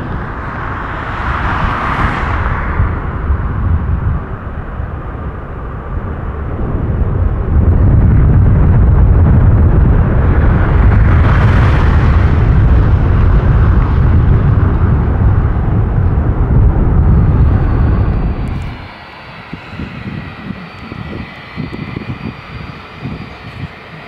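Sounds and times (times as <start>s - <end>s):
jet engines in reverse thrust: 0.0s - 24.0s.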